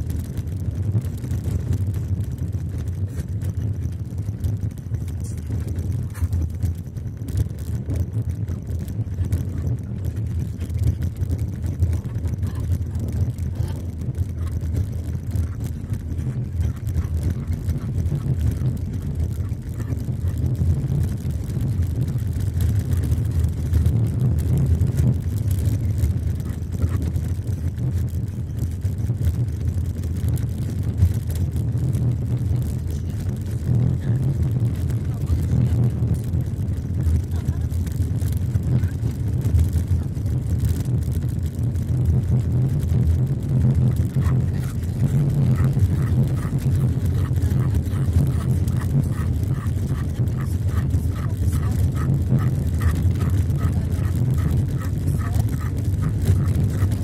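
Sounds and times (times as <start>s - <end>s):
car driving on gravel road: 0.0s - 57.0s.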